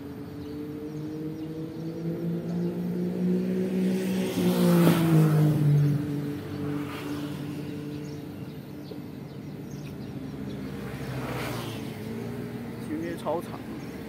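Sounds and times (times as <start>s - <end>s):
vehicle engine passing by: 0.1s - 14.0s.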